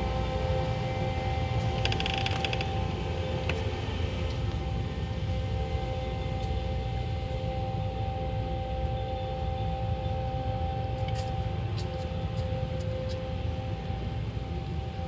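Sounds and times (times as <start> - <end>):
two-note machine whine: 0.0 - 15.0.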